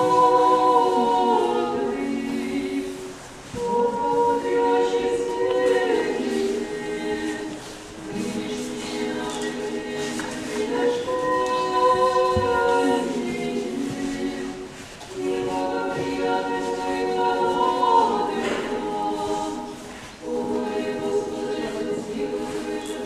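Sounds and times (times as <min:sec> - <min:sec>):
church choir singing chant: 0:00.0 - 0:23.0.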